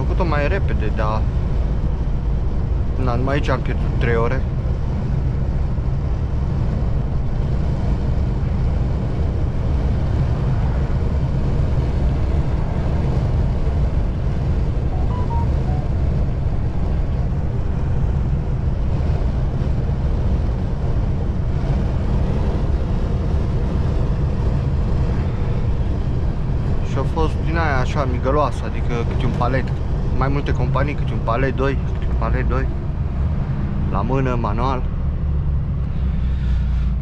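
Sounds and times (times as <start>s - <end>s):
lorry engine drone: 0.0s - 37.0s
road noise: 0.0s - 37.0s.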